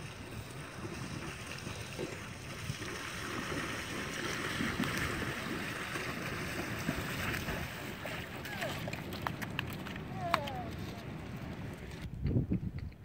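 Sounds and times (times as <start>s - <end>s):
hooves splashing through water: 0.0s - 12.1s.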